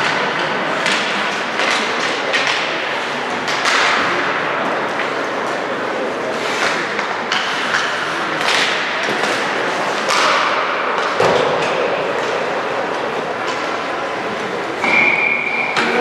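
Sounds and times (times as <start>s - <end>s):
crowd noise: 0.0s - 16.0s.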